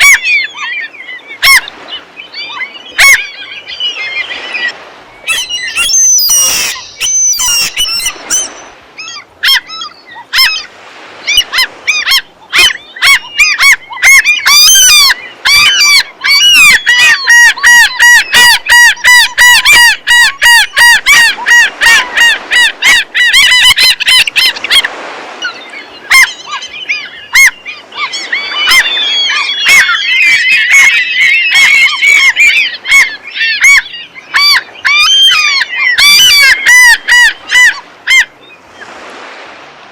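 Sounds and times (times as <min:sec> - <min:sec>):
gulls calling: 0:00.0 - 0:39.9.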